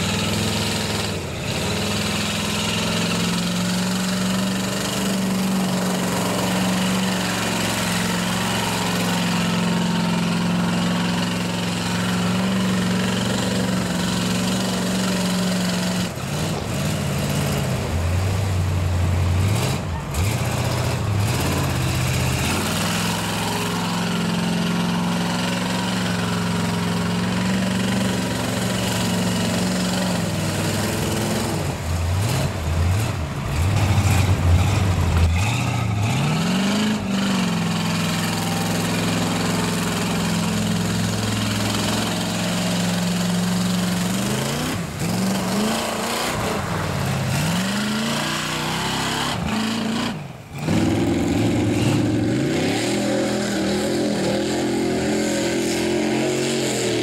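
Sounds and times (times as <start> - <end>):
truck engine revving: 0.0 - 57.0
tyres spinning through mud: 0.0 - 57.0.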